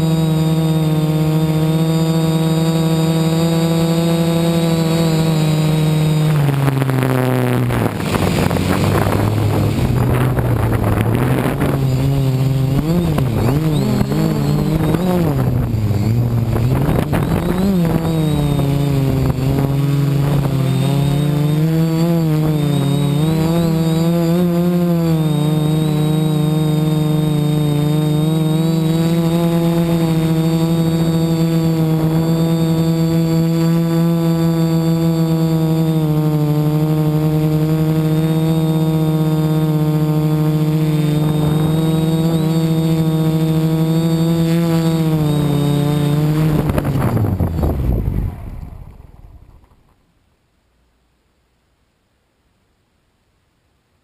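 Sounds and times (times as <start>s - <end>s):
drone propellers buzzing: 0.0s - 49.9s.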